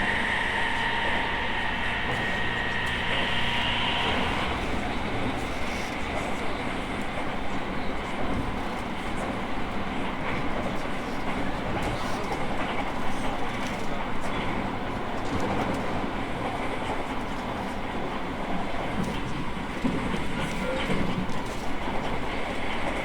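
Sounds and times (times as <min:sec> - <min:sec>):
rail joint clicks: 0:00.0 - 0:23.0
train wheels rumbling on rail: 0:00.0 - 0:23.0.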